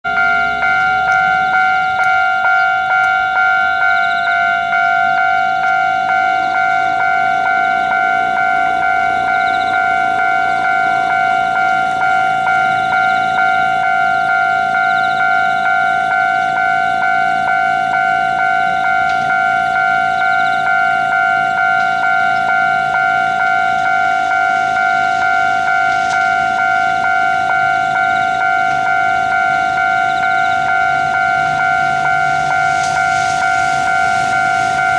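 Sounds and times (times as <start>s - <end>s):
level crossing bell ringing: 0.0s - 34.9s.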